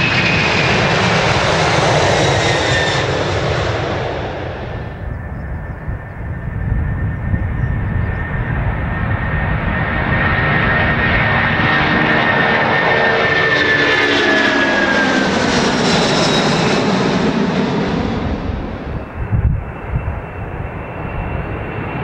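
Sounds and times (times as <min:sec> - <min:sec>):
high jet engine whine: 0:00.0 - 0:22.0
jet engines roaring at take-off: 0:00.0 - 0:22.0.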